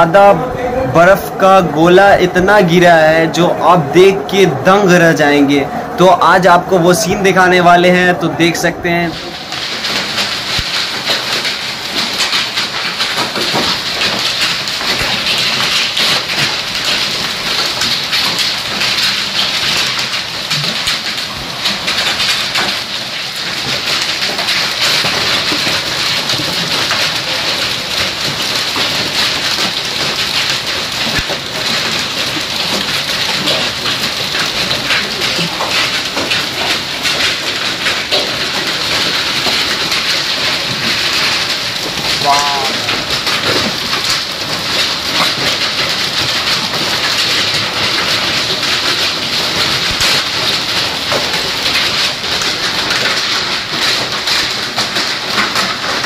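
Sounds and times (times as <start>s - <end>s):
hail and rain pattering: 0.0s - 56.0s.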